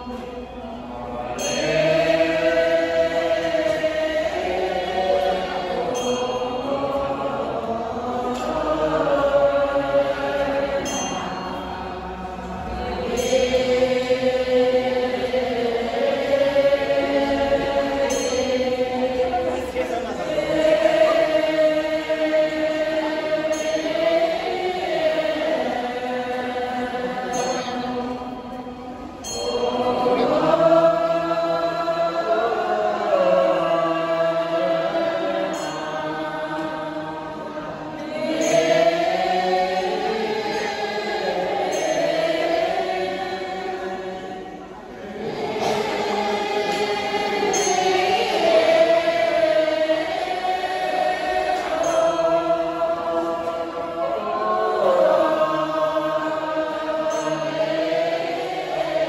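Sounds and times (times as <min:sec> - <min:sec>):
group chanting prayers: 0:00.0 - 0:59.0.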